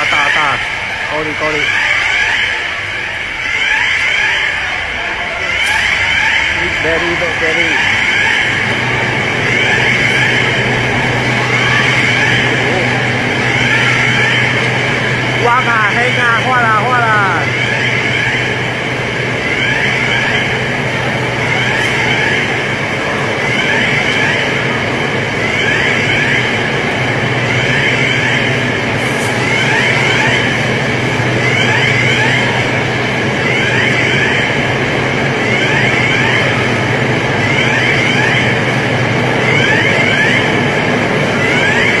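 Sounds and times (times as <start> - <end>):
fire alarm falling tones: 0.0 - 42.0
loud steady rushing noise: 0.0 - 42.0.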